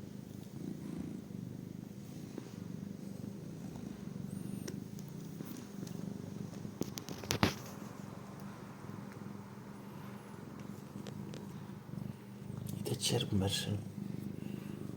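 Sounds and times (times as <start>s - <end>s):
cat purring: 0.0s - 14.9s.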